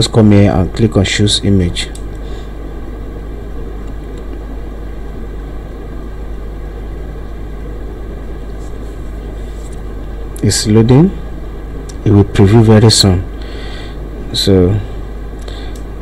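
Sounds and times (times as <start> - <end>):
constant hiss: 0.0 - 16.0
low hum: 0.0 - 16.0.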